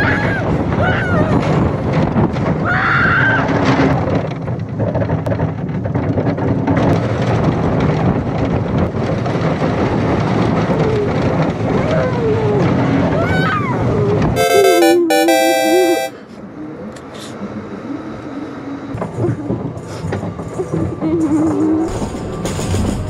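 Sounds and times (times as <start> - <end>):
roller coaster train on track: 0.0 - 15.7, 17.7 - 23.0.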